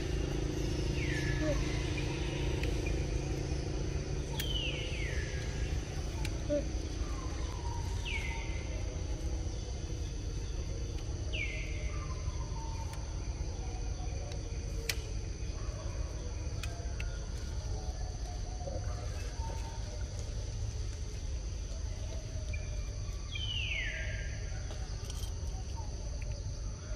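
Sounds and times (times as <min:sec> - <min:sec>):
high insect drone: 0:00.0 - 0:26.9
low steady rumble: 0:00.0 - 0:26.9.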